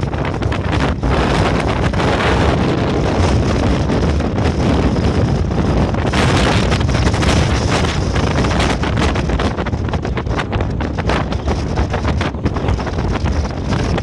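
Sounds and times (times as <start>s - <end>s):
ferry rushing through waves: 0.0s - 14.0s
low rumble: 0.0s - 14.0s
wind buffeting microphone: 0.0s - 14.0s.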